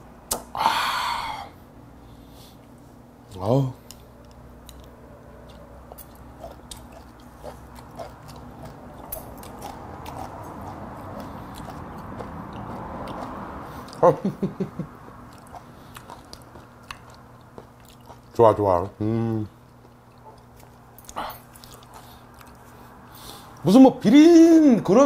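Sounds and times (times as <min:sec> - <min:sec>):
man chewing: 0:02.2 - 0:18.4, 0:19.2 - 0:23.6.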